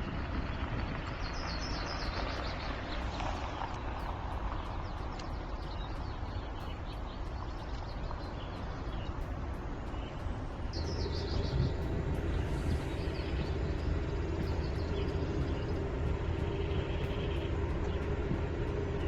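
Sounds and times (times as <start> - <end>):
road rumble: 0.0 - 19.0
wind noise: 0.0 - 19.0
birds chirping: 1.1 - 19.0.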